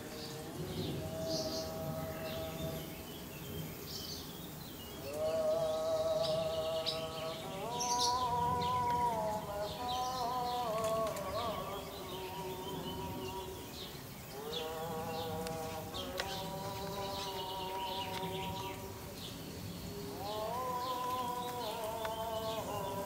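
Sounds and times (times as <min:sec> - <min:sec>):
small birds chirping: 0:00.0 - 0:23.0
steady droning hum: 0:00.0 - 0:23.0.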